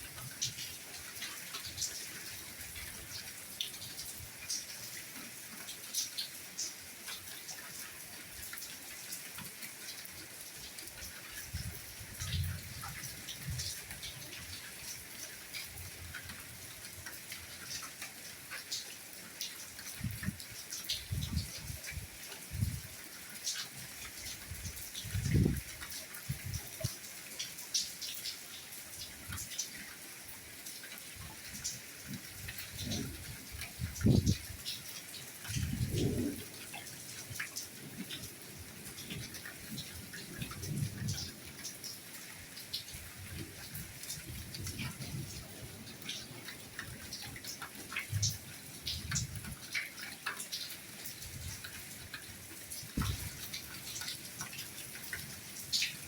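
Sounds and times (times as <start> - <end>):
soft rain hissing: 0.0 - 56.0.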